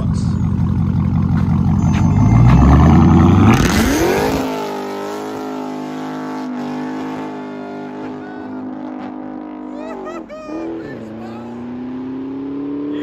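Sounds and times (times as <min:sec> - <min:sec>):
car engine exhaust rumbling and revving: 0:00.0 - 0:13.0.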